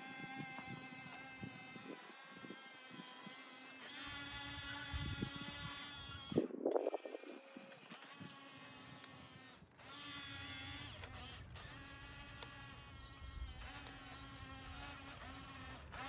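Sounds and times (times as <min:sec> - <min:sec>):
small electric motors whirring: 0:00.0 - 0:16.0.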